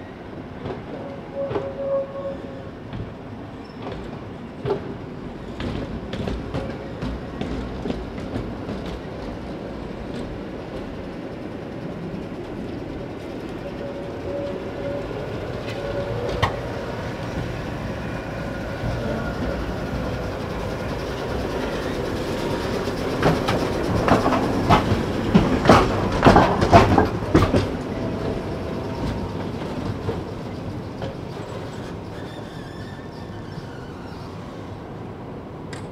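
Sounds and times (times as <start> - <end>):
tram rolling rumble: 0.0 - 35.9
tram wheels clattering over track: 0.4 - 34.8.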